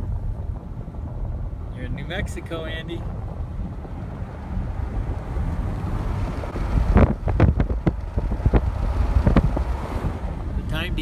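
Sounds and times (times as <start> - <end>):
vehicle road rumble: 0.0 - 11.0
wind buffeting microphone: 0.0 - 11.0.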